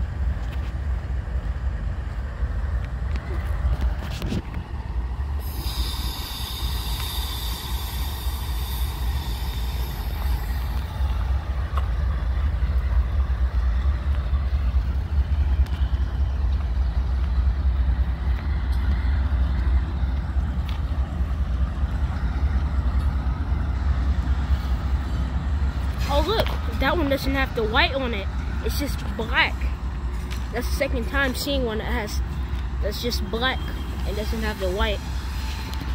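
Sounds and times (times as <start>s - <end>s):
diesel locomotive engines rumbling: 0.0s - 35.9s.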